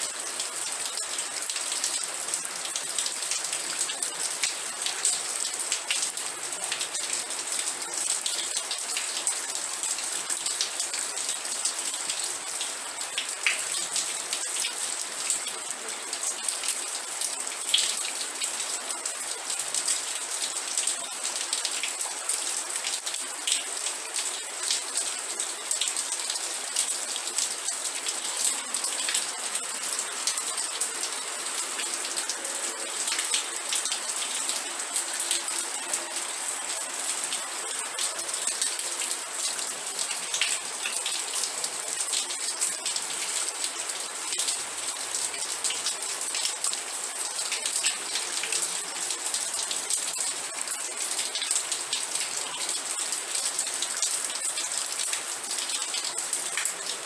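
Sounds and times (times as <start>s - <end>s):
raindrops pattering on a surface: 0.0s - 57.0s
steady rain falling: 0.0s - 57.0s.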